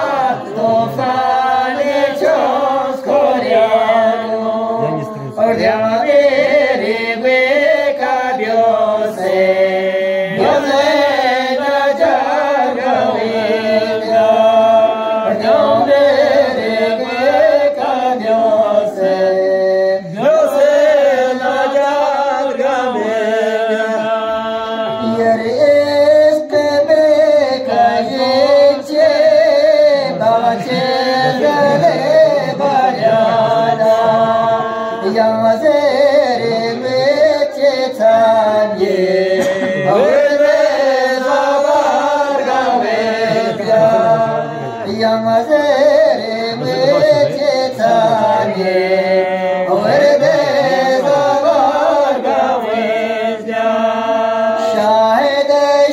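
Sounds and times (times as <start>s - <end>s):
men chanting unaccompanied: 0.0s - 55.9s.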